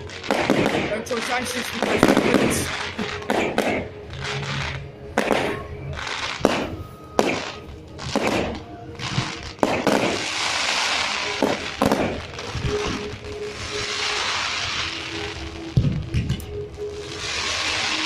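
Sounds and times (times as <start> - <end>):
fireworks bangs and cracks: 0.0 - 18.0
fireworks crackling hiss: 0.0 - 18.0.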